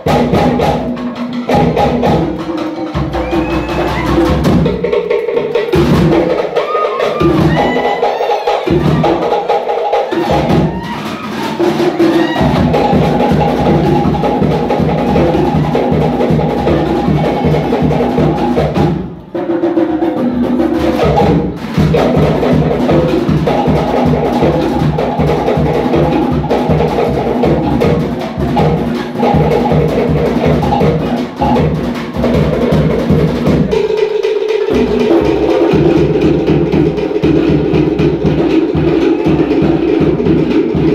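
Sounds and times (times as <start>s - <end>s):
deep skin drum: 0.0s - 40.9s.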